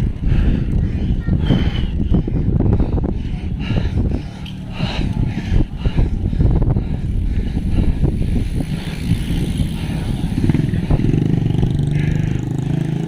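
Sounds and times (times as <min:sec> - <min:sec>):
wind noise: 0:00.0 - 0:12.5
road rumble: 0:00.0 - 0:13.0
vehicle engine running: 0:00.0 - 0:13.0.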